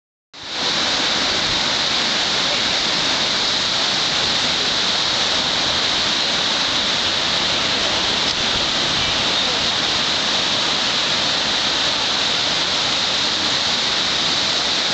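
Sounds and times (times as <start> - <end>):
river rushing in flood: 0.4 - 14.9.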